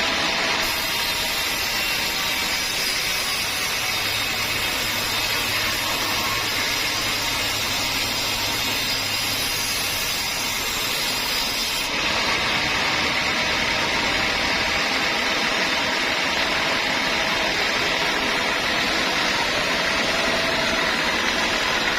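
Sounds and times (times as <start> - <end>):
bandsaw mill running: 0.0 - 21.9.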